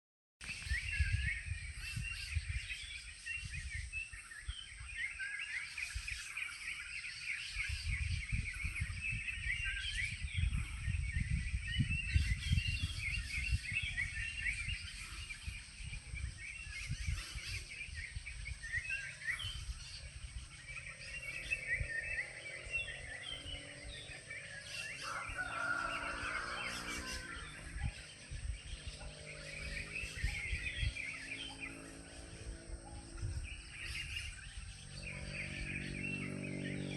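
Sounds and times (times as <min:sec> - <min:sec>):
small birds chirping: 0:00.4 - 0:36.9
low rumble: 0:07.2 - 0:36.9.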